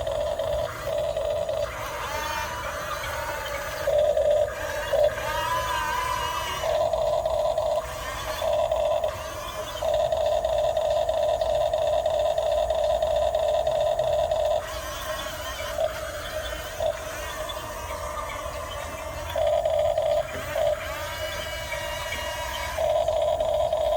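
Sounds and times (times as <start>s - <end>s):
electric motors whining: 0.0s - 23.9s.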